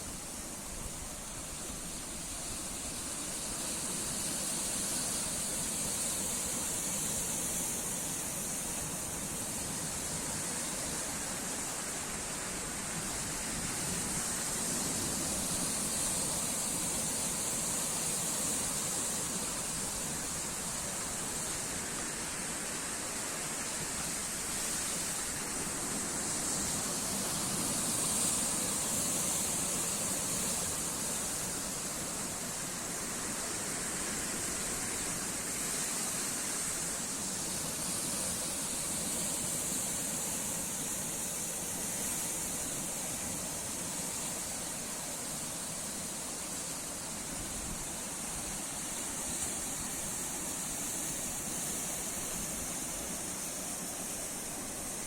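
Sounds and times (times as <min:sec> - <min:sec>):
sea surf waves breaking: 0:00.0 - 0:55.0.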